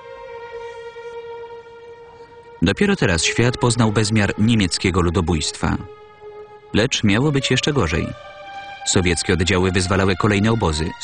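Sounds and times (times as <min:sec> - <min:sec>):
long held musical note: 0:00.0 - 0:11.0.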